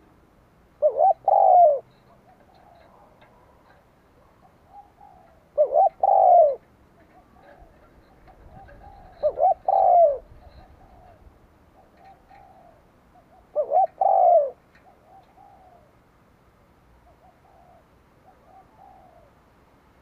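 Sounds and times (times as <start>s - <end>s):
dove cooing close by: 0.8s - 16.0s, 17.0s - 19.4s
faint dove coos: 0.8s - 16.0s, 17.0s - 19.5s.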